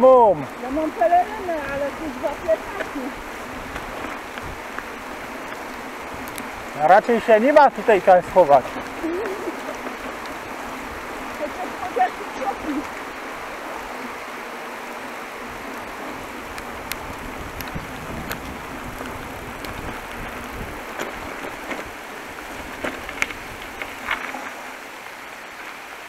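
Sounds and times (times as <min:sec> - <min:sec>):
bicycle tyres hissing on wet road: 0:00.0 - 0:26.0.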